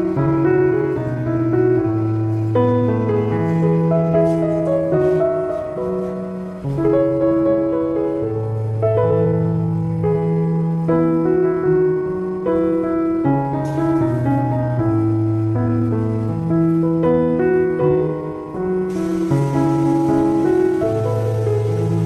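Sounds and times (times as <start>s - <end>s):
slow piano piece: 0.0s - 22.0s.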